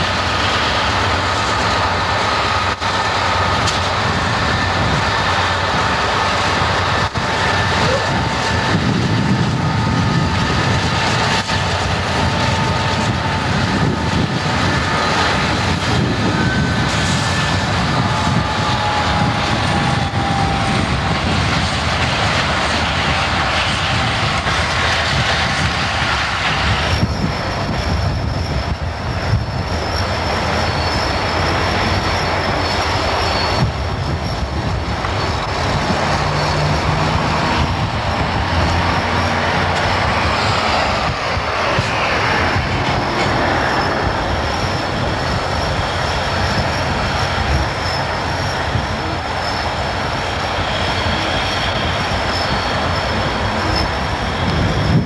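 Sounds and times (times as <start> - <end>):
high wheel squeals: 0.0 - 55.0
train wheels rumbling on rail: 0.0 - 55.0.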